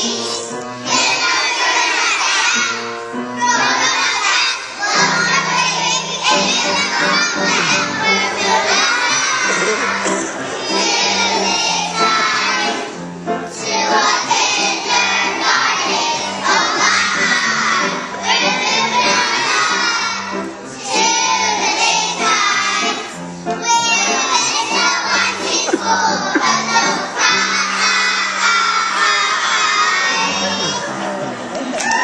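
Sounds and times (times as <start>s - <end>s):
children singing together: 0.0s - 31.3s.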